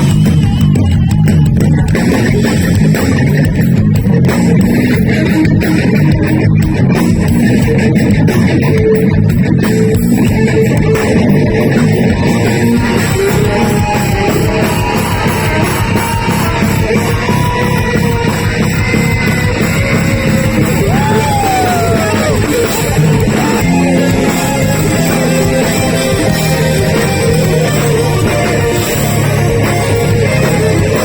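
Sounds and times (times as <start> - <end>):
heavy metal band playing: 0.0 - 31.0.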